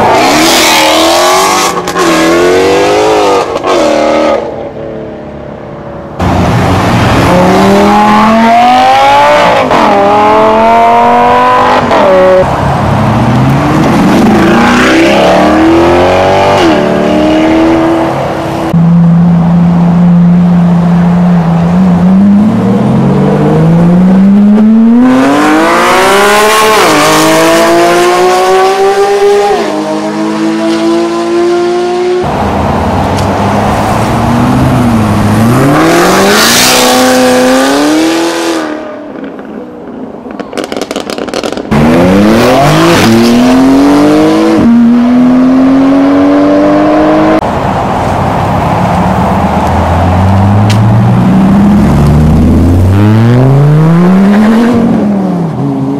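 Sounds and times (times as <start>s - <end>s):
sports car engines accelerating hard: 0.0s - 5.0s, 6.2s - 39.5s, 40.6s - 55.9s.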